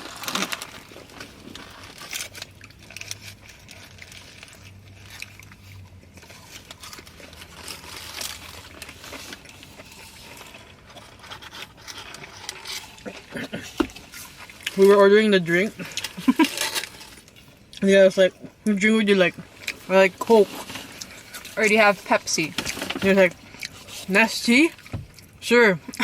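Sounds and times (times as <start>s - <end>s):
paper wrappers crinkling: 0.0s - 18.0s, 18.8s - 26.0s
chewing with crunches: 0.0s - 26.0s.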